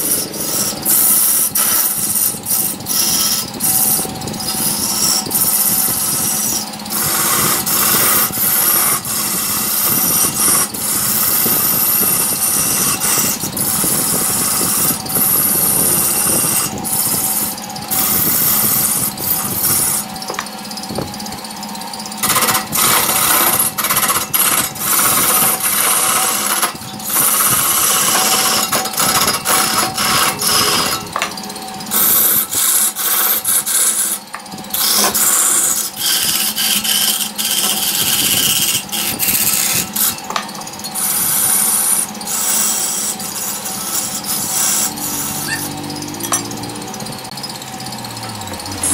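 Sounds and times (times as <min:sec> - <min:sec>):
lathe humming: 0:00.0 - 0:48.9
tool scraping spinning wood: 0:00.0 - 0:48.9.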